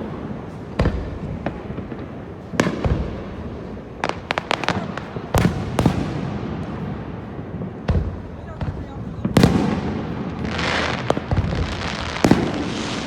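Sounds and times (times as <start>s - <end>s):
firework booms: 0.0s - 13.0s
firework sharp cracks: 0.0s - 13.0s.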